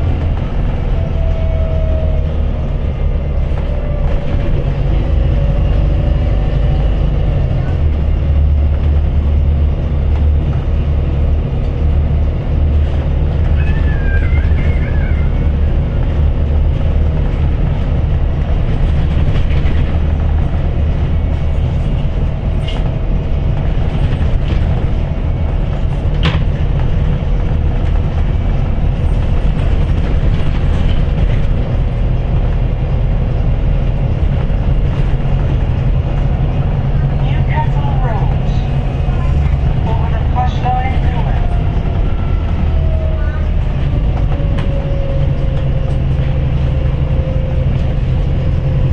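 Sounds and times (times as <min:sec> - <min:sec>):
bus engine drone: 0:00.0 - 0:48.9
road and tyre noise: 0:00.0 - 0:48.9.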